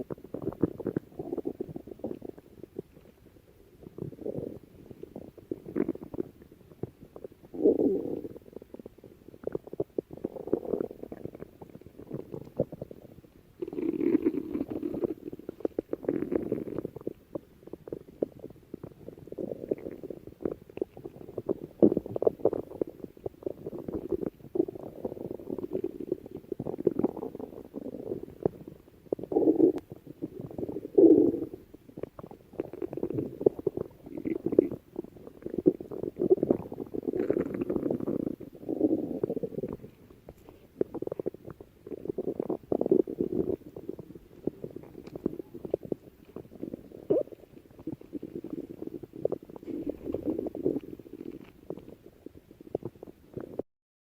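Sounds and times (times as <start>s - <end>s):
stomach growling: 0.0s - 53.6s.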